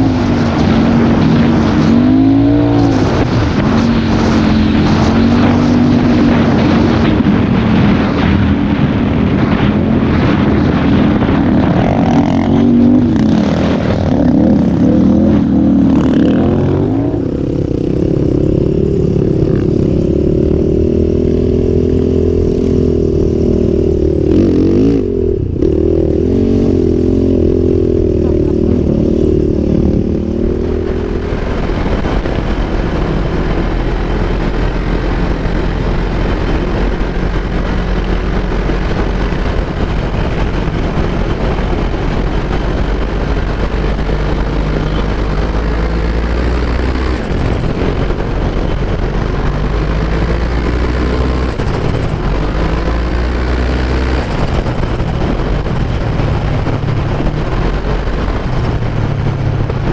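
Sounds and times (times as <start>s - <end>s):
quad bike engine revving: 0.0s - 8.6s, 9.6s - 59.9s
low hum: 0.0s - 59.9s
rushing noise: 0.0s - 59.9s.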